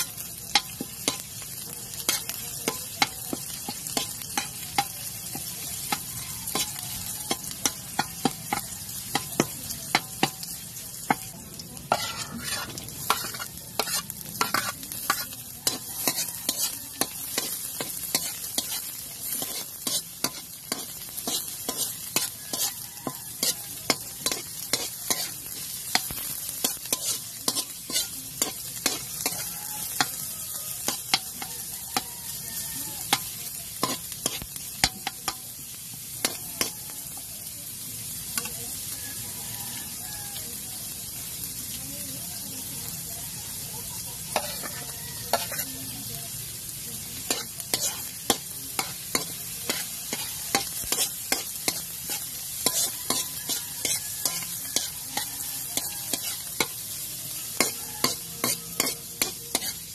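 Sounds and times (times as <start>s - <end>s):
metal spoon scraping wok: 0.0s - 37.3s, 42.8s - 59.9s
garlic and onion sizzling in oil: 0.0s - 59.9s.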